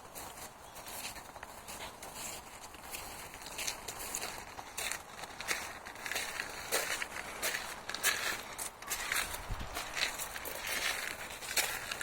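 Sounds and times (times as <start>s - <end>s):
footsteps crunching on path: 0.0s - 12.0s.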